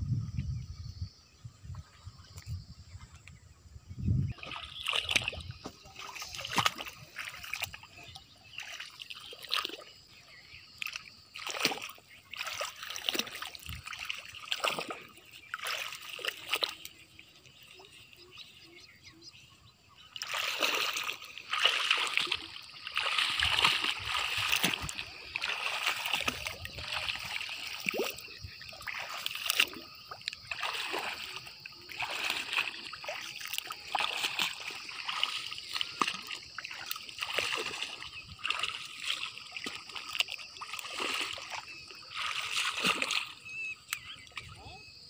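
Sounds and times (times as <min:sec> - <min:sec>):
wading through shallow water: 0:00.0 - 0:45.0.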